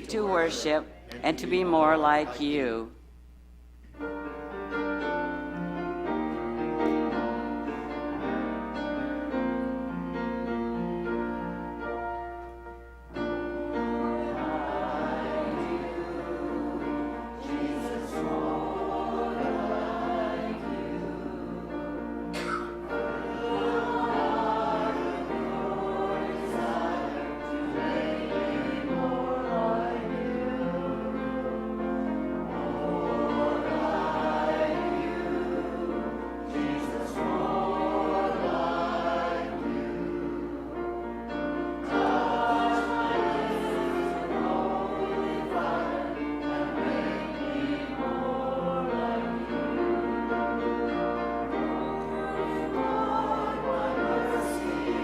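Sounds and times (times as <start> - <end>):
group singing a hymn: 4.5 - 12.0, 13.2 - 55.0.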